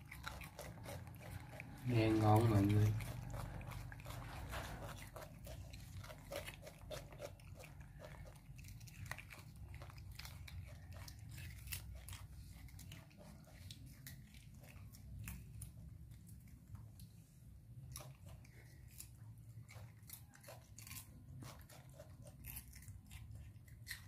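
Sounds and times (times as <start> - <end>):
monkeys crunching cucumber: 0.0 - 24.0.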